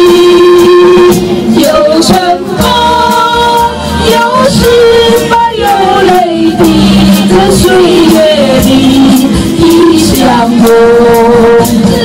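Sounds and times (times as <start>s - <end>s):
pop ballad over loudspeakers: 0.0s - 12.0s.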